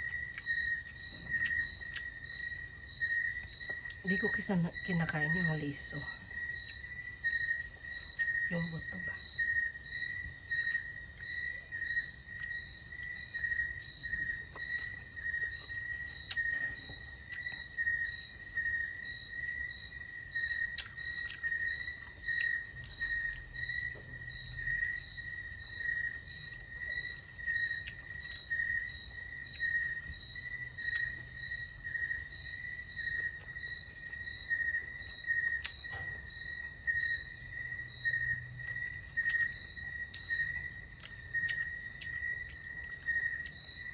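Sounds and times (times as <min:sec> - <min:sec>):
insects trilling: 0:00.0 - 0:43.9.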